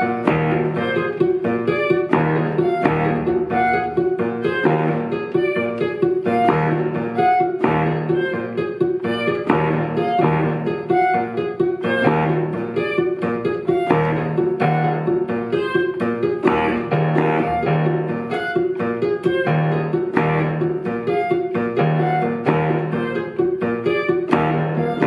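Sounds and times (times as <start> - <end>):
guitar plucking: 0.0 - 25.0.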